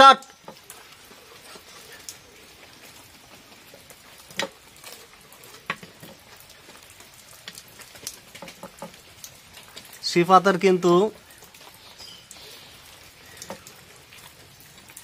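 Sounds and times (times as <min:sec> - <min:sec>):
light steady hiss: 0:00.0 - 0:15.0.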